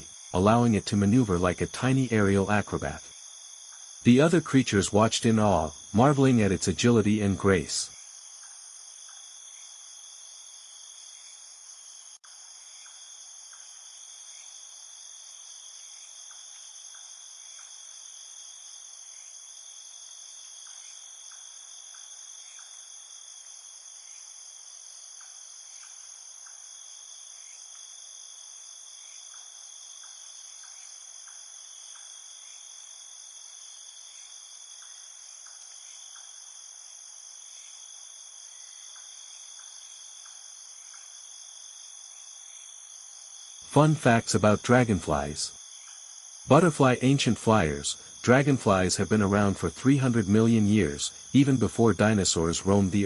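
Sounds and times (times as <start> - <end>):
insects chorus: 0.0 - 53.0.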